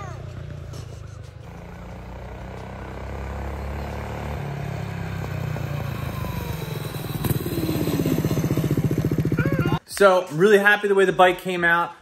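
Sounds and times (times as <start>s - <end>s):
mini bike engine running: 0.0s - 9.8s.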